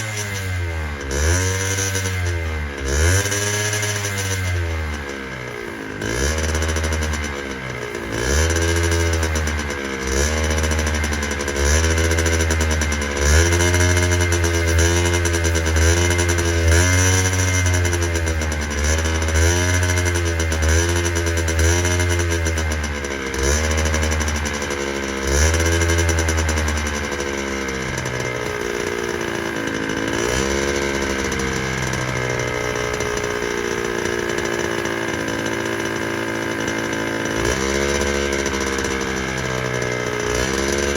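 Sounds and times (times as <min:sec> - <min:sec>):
two-stroke engine revs rising and falling: 0:00.0 - 0:40.9.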